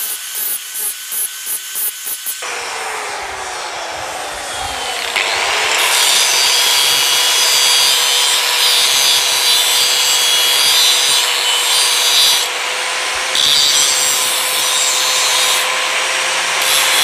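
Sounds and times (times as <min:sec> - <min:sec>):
angle grinder motor running: 0:00.0 - 0:17.0
grinding disc on steel: 0:02.0 - 0:17.0.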